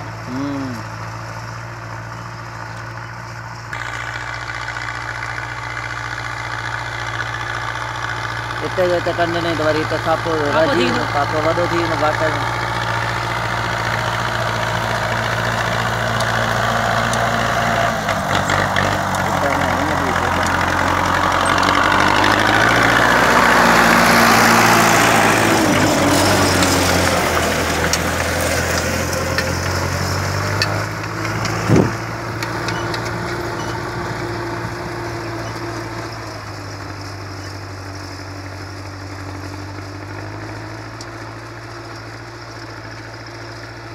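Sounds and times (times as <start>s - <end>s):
diesel tractor running under load: 0.0s - 43.9s.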